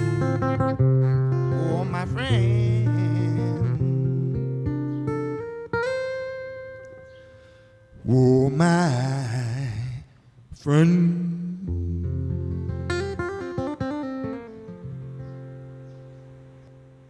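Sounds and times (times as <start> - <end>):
guitar playing slow song: 0.0 - 17.0.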